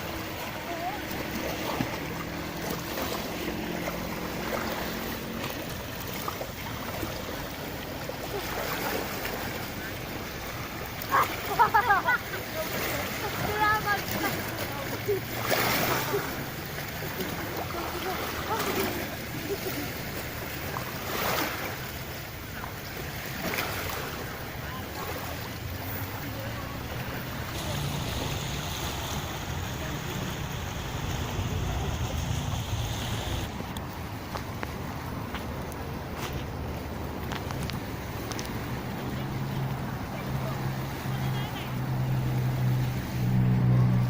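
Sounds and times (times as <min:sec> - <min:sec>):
light wind: 0:00.0 - 0:44.0
small waves washing on beach: 0:00.0 - 0:44.0.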